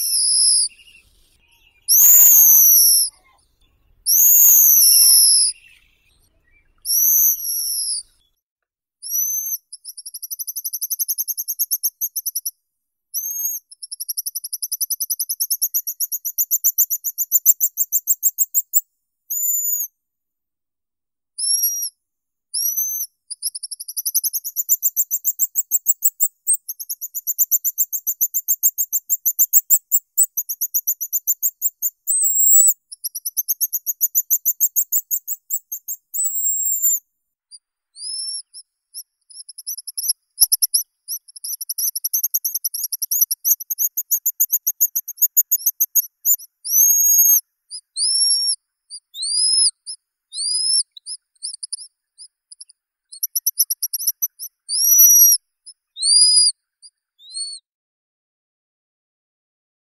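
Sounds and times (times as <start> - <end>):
bird calling in high whistles: 0.0 - 3.3, 4.0 - 8.3, 9.0 - 12.5, 13.2 - 19.9, 21.4 - 37.0, 38.0 - 49.8, 50.4 - 51.9, 53.1 - 55.4, 56.0 - 56.6, 57.2 - 57.6.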